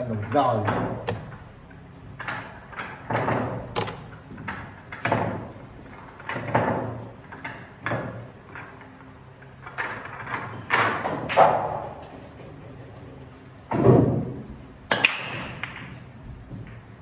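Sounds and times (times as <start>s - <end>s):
billiard balls clacking: 0.0s - 17.0s.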